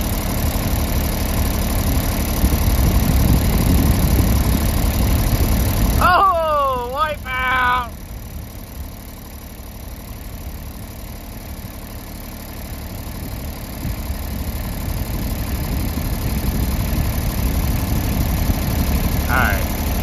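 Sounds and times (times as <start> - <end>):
tractor engine idling: 0.0 - 20.0.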